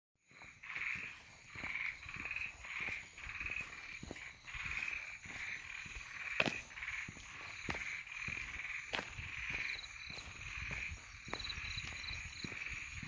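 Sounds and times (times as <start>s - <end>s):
frogs croaking in chorus: 0.2s - 13.0s.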